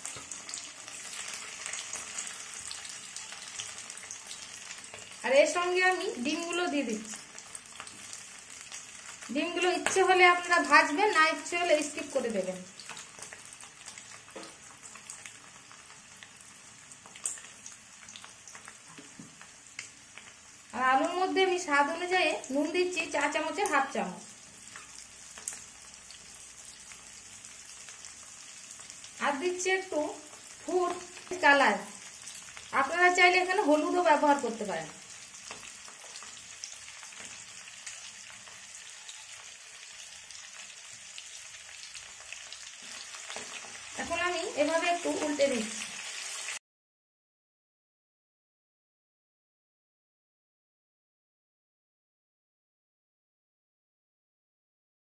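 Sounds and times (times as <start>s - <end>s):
potatoes and eggs sizzling in oil: 0.0s - 46.6s.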